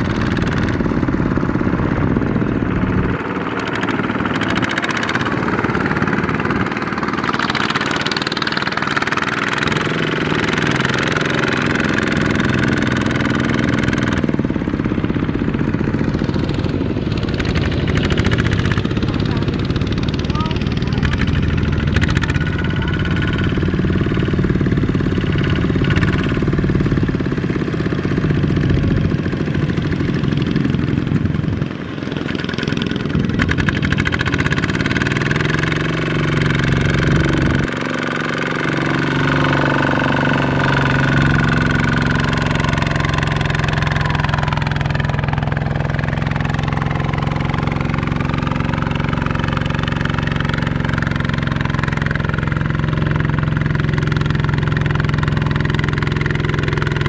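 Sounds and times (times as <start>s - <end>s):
diesel tractor engine under load: 0.0s - 57.0s.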